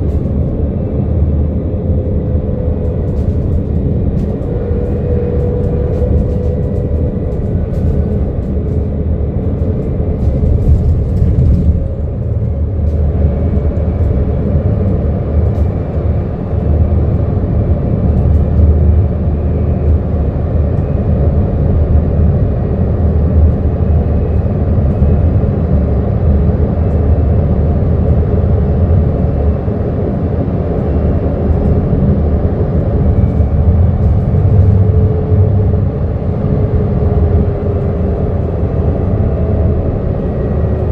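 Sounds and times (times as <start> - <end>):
bus driving low rumble: 0.0 - 40.9.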